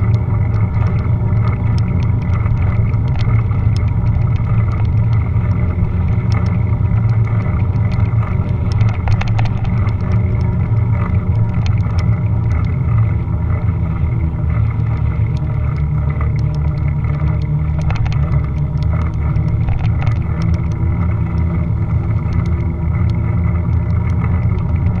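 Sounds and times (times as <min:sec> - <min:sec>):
sharp clicks and rattles: 0:00.0 - 0:25.0
wind and road rumble: 0:00.0 - 0:25.0.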